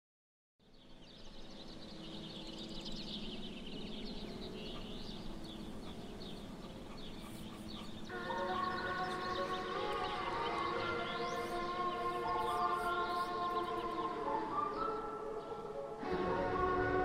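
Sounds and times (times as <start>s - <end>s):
small birds chirping: 0.6s - 16.0s
sustained music tones: 1.1s - 17.0s.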